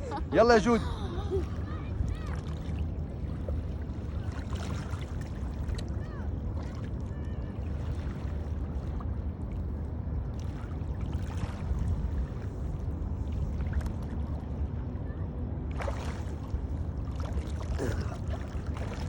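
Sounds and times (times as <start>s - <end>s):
sea water splashing: 0.0s - 19.0s
steady low rumble: 0.0s - 19.0s.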